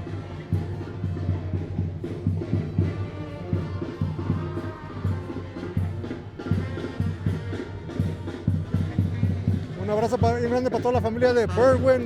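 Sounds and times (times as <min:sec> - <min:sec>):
drums beating: 0:00.0 - 0:12.0
wind instrument melody: 0:00.0 - 0:12.0.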